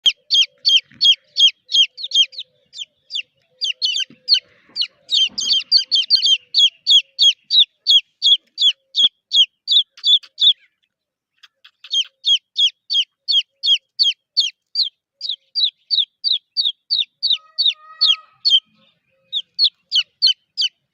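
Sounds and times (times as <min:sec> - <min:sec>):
chicks peeping: 0:00.0 - 0:10.7, 0:11.4 - 0:20.9.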